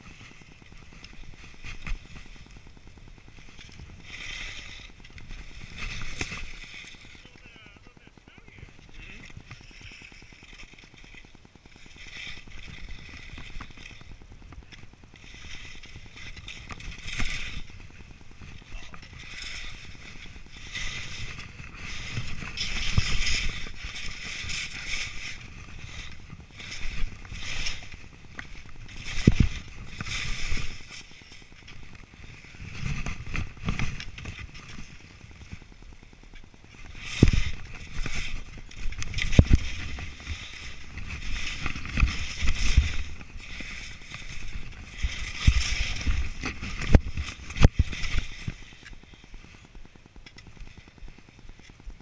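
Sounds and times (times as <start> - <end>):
skis scraping through snow: 0.0 - 52.0
skis thumping on bumps: 0.0 - 52.0.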